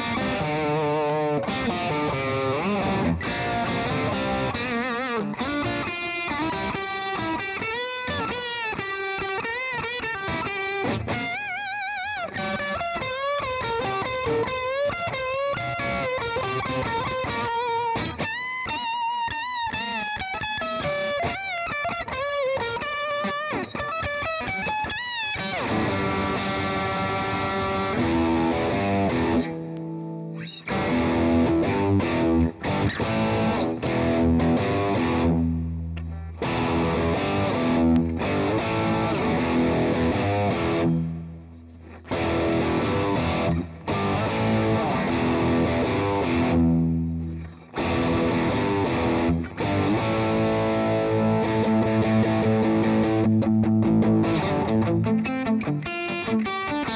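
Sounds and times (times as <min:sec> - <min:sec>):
electric guitar playing: 0:00.0 - 0:56.9.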